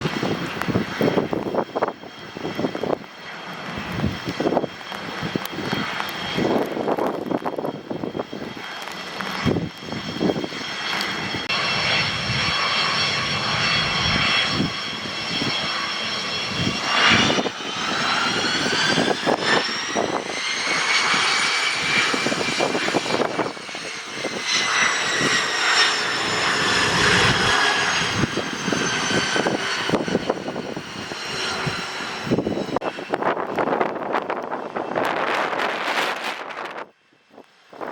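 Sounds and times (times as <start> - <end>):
gusty low rumbling: 0.0 - 37.9
jet engine turbine whine: 0.0 - 37.9.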